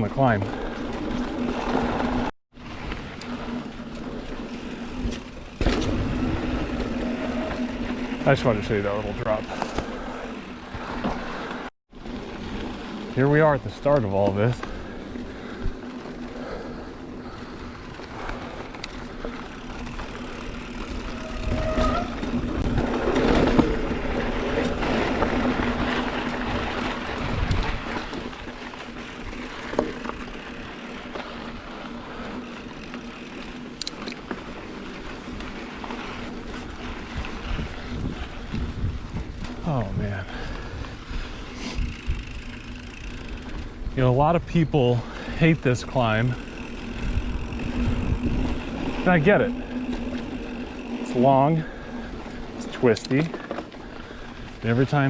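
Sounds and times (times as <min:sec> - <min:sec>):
bike tyres on dirt trail: 0:00.0 - 0:55.0.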